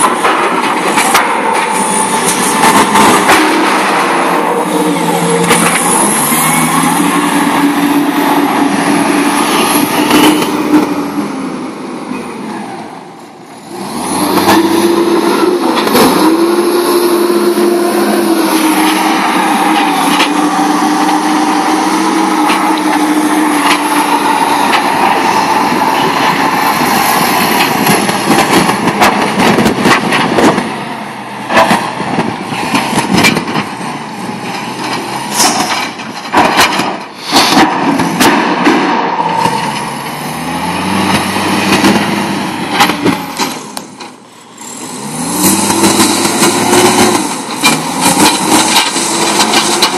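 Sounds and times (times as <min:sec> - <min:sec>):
loader engine revving: 0:00.0 - 0:49.9.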